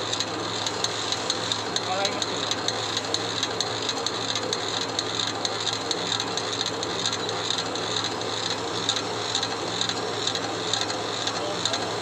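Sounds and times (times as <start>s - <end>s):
pellet mill humming: 0.0s - 12.0s.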